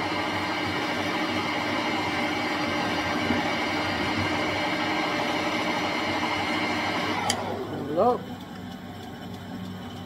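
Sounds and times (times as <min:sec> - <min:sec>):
lathe motor and gear hum: 0:00.0 - 0:10.0.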